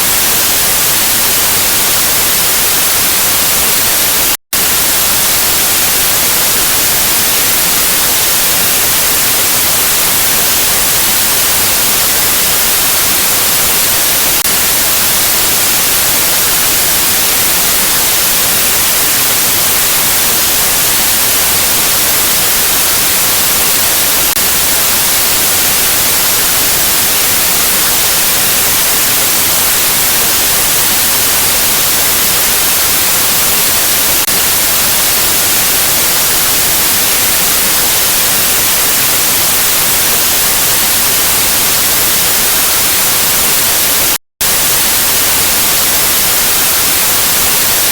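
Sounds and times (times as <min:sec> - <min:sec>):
white noise static hiss: 0:00.0 - 0:47.9.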